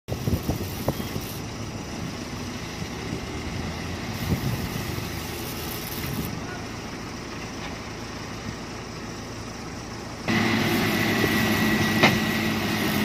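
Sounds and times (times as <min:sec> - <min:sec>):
truck engine running: 0:00.1 - 0:13.0.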